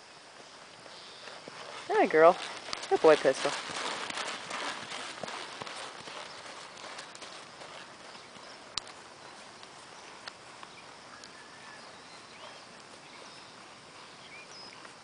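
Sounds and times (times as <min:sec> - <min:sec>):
horse hooves trotting: 0:00.0 - 0:15.0.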